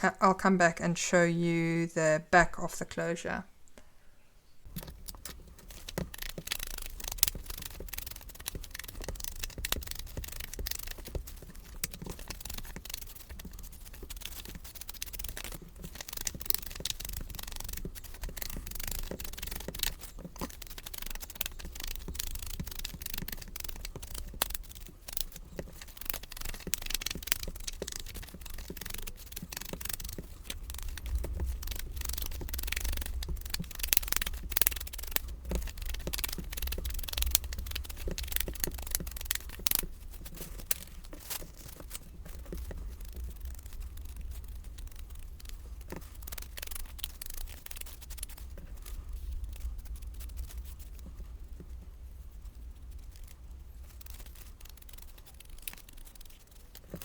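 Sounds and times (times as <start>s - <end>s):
scratchy scrubbing on paper: 4.7s - 57.0s.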